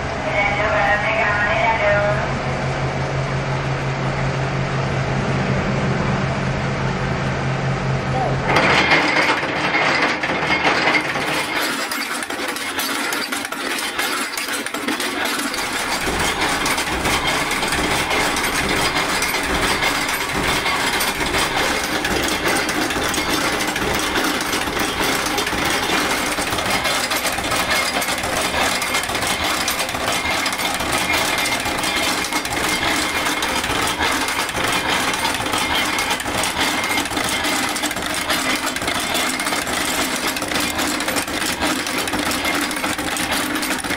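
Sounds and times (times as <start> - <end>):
low machine hum: 0.0 - 43.9
metallic machine clatter: 8.5 - 43.9.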